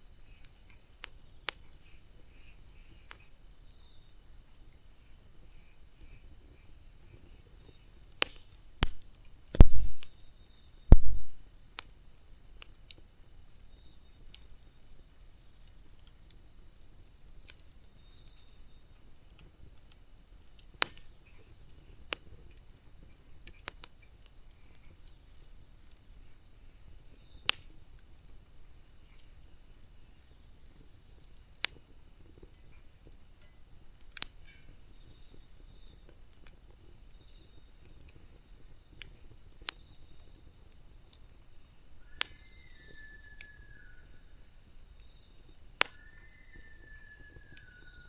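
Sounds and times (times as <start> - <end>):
bonfire hissing: 0.0 - 48.0
fire crackling pops: 0.0 - 48.0.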